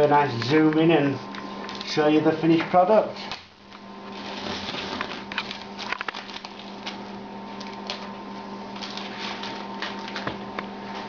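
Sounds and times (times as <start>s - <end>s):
steady hiss with low hum: 0.0s - 11.0s.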